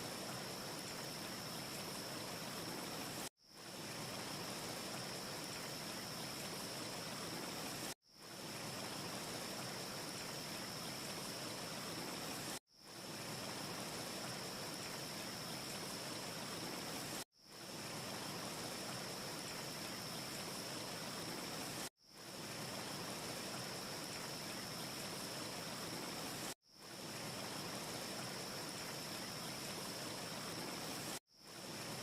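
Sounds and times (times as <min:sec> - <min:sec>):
wind-like rushing hiss: 0:00.0 - 0:32.0.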